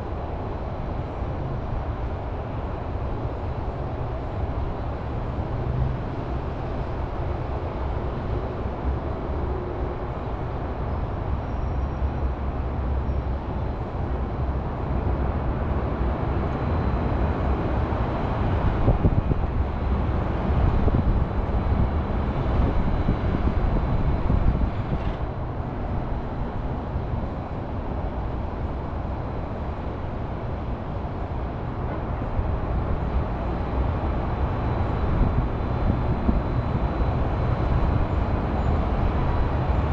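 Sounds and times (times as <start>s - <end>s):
highway traffic hum: 0.0s - 39.9s.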